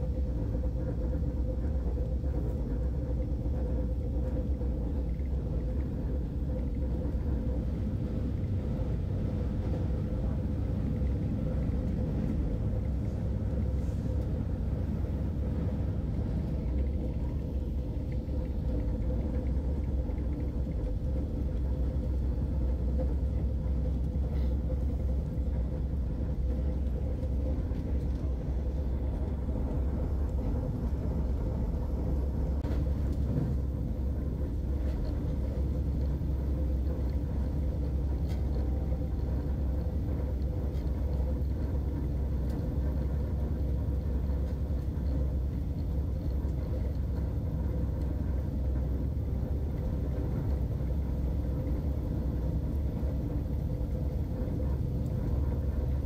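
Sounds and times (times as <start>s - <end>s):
faint steady hum: 0.0s - 56.0s
train rumbling along track: 0.0s - 56.0s.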